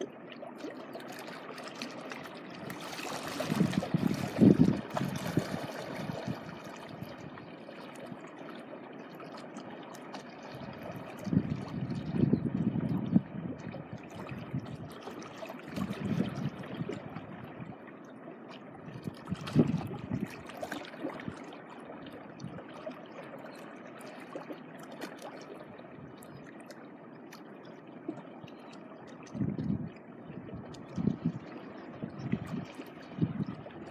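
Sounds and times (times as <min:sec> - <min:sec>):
small waves lapping on a beach: 0:00.0 - 0:11.8, 0:13.9 - 0:30.0.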